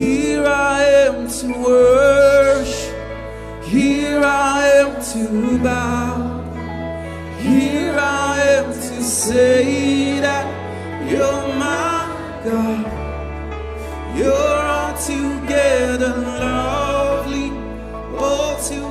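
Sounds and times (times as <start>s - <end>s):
sustained accompaniment chords: 0.0s - 18.9s.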